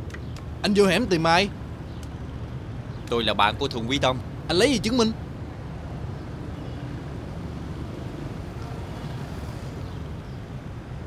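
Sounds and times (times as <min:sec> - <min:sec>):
low outdoor background rumble: 0:00.0 - 0:11.0.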